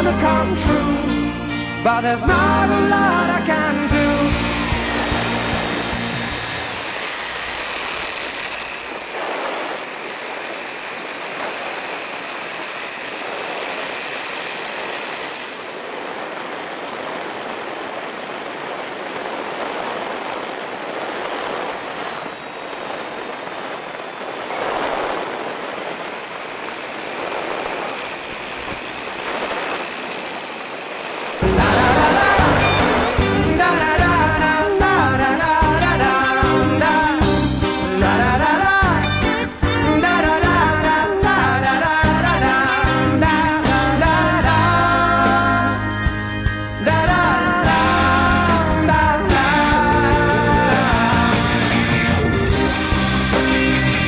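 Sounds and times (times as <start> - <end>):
faint high whine: 0.0 - 54.0.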